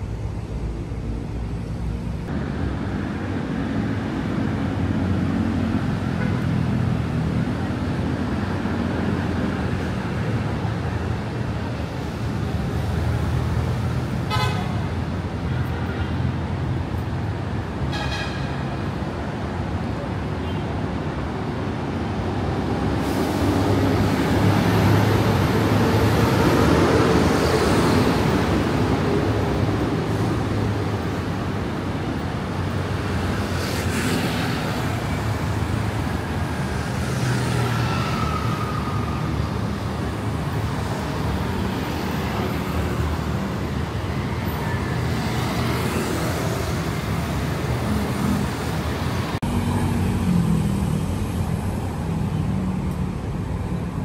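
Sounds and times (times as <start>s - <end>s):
city road traffic: 0.0s - 54.0s.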